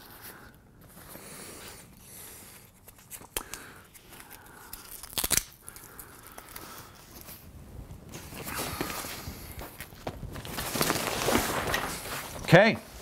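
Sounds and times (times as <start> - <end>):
nylon straps rustling: 0.0 - 13.0.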